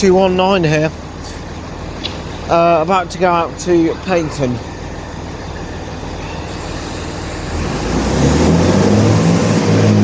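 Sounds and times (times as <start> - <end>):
diesel train engines droning: 0.0 - 10.0.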